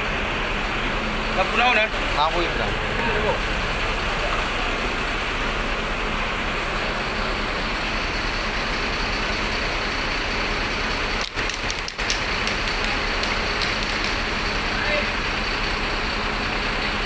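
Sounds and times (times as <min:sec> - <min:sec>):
large vehicle engines running: 0:00.0 - 0:17.0.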